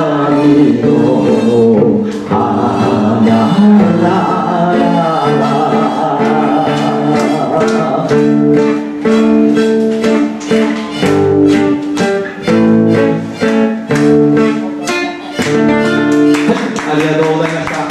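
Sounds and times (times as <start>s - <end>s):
guitar playing plucked notes: 0.0s - 17.9s.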